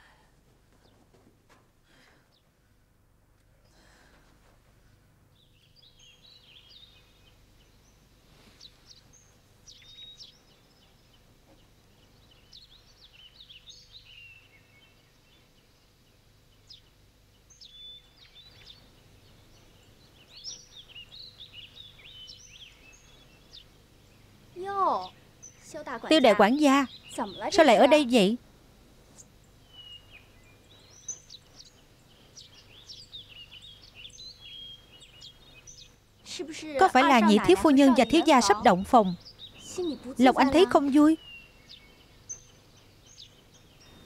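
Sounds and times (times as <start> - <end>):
faint background hum: 0.0 - 44.0
small birds chirping: 5.2 - 28.4, 29.0 - 44.0.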